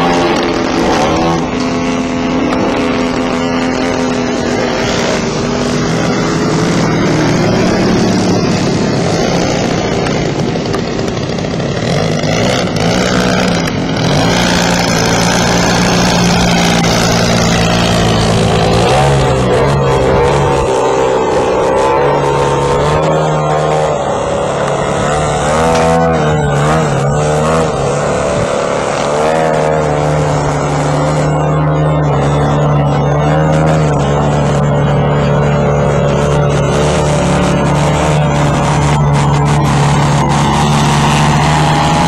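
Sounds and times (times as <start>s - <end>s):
model plane engine in flight: 0.0s - 42.0s.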